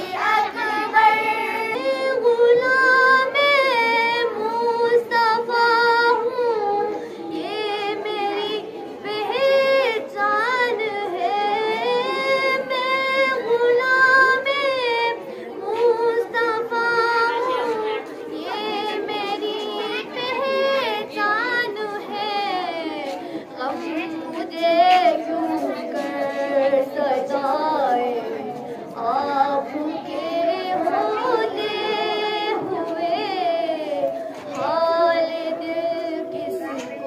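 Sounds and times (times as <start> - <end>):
girls singing unaccompanied: 0.0 - 37.0.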